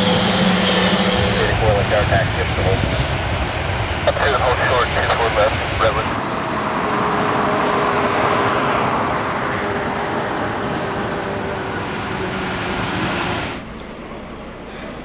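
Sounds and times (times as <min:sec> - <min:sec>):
jet engines roaring with high whine: 0:00.0 - 0:15.0.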